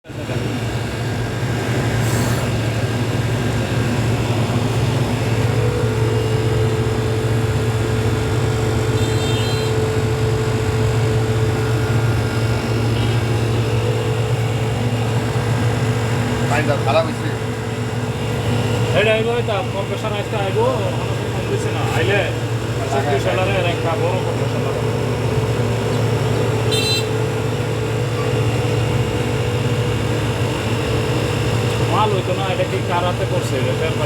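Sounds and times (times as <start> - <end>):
dehumidifier running: 0.1 - 34.0.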